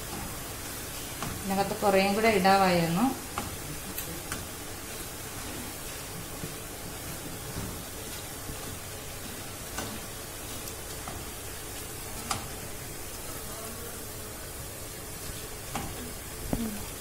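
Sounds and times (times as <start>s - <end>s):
batter frying in oil: 0.0s - 17.0s.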